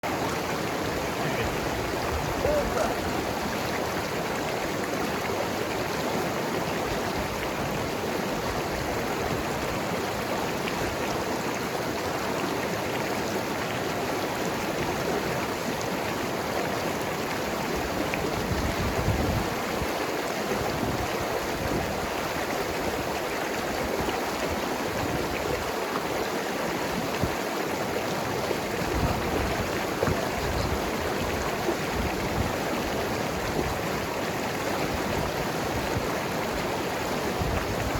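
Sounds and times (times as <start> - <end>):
river flowing over rocks: 0.0 - 37.9.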